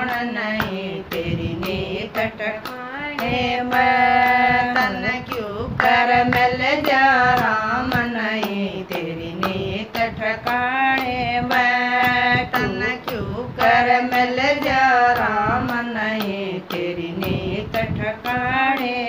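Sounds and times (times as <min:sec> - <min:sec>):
hand claps: 0:00.0 - 0:19.0
women singing devotional song: 0:00.0 - 0:19.0.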